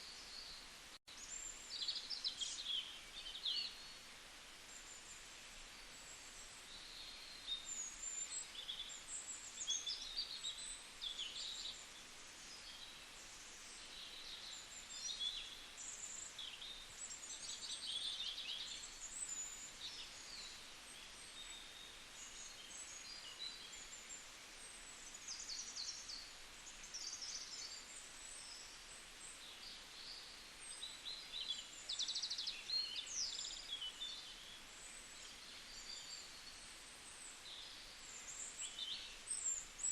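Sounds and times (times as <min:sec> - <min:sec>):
faint steady hiss: 0:00.0 - 0:39.9
small birds chirping and trilling: 0:00.0 - 0:39.9.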